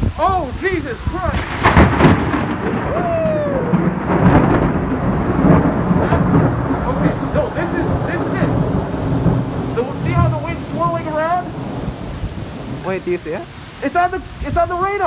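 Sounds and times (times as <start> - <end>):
heavy rain on pavement: 0.0 - 15.0
thunder rumbling: 0.0 - 15.0.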